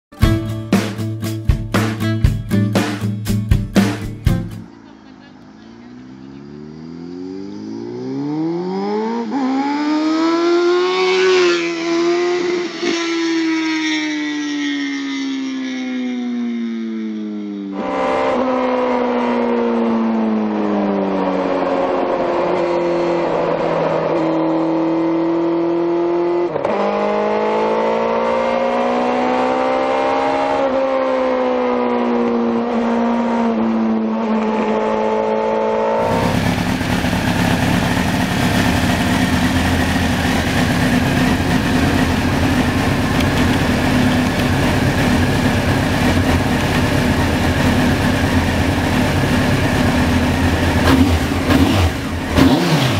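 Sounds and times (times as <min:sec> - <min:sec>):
motorcycle engine revving: 0:04.6 - 0:52.9.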